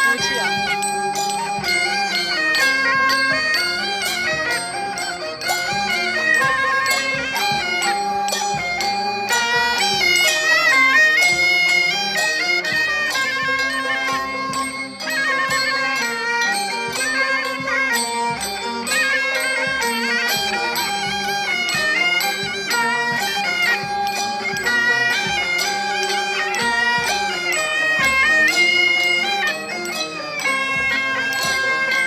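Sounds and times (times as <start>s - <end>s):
percussion strikes: 0.0s - 32.0s.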